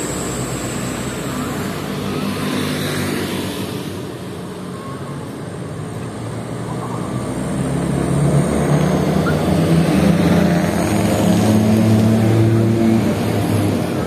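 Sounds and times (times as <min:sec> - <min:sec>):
bus diesel engine: 0:00.0 - 0:14.0.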